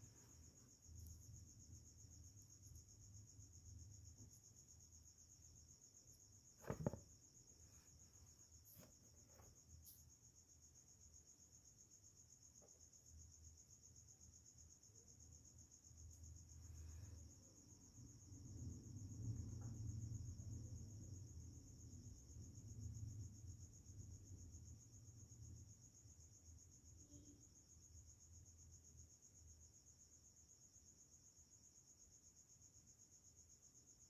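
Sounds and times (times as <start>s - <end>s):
high-pitched insect trill: 0.0s - 34.0s.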